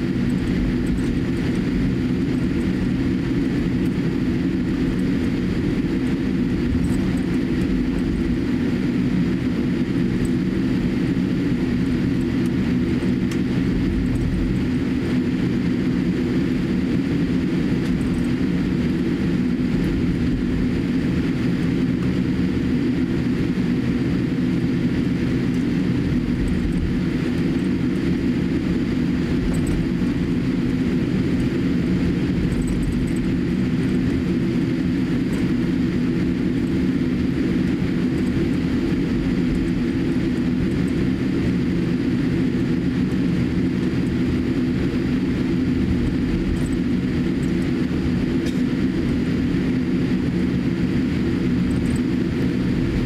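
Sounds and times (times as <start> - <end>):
jet engines at taxi power: 0.0 - 53.0
wheels rolling on taxiway: 0.0 - 53.0.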